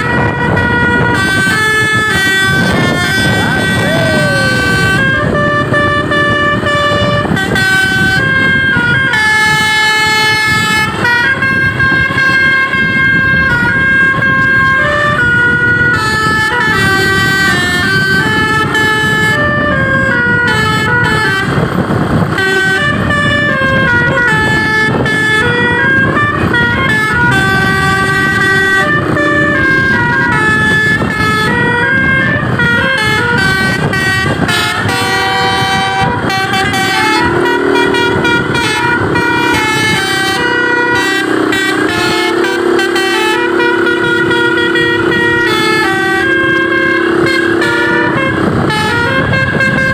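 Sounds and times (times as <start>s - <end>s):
bus air horns playing a melody: 0.0s - 49.9s
steady low rumble: 0.0s - 49.9s.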